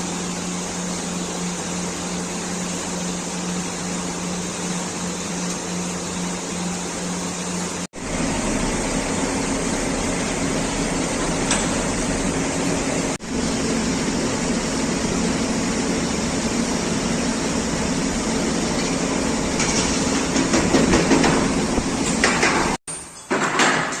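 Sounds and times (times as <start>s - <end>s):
furnace humming and rushing: 0.0s - 24.0s.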